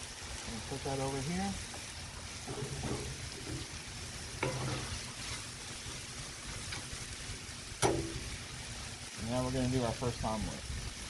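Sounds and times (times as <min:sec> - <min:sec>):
ghee sizzling on a griddle: 0:00.0 - 0:11.0.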